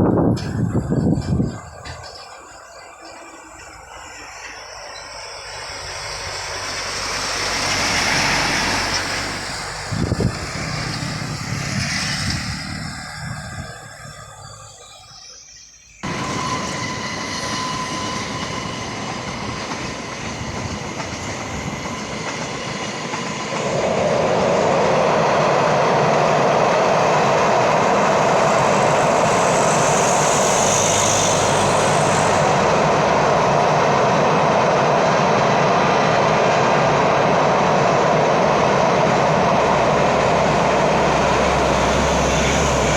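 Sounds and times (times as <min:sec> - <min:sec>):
train running: 0:00.0 - 0:42.9.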